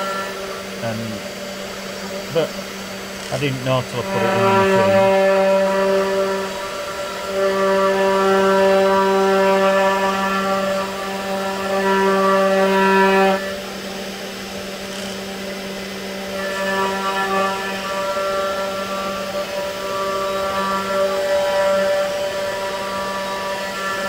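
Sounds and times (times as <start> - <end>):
router spindle humming: 0.0 - 24.0.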